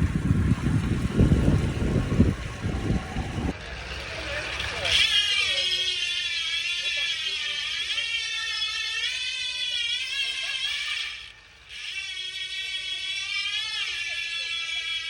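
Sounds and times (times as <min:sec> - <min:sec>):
bicycle freehub buzzing ratchet: 0:00.0 - 0:03.6, 0:05.9 - 0:15.0.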